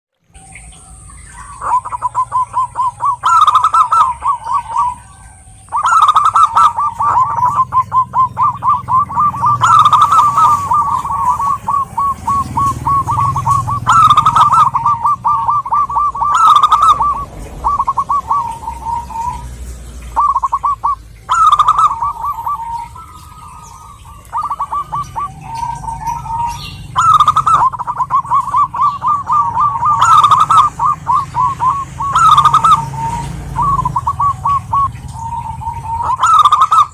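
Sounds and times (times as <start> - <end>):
dove cooing: 0.4 - 36.9.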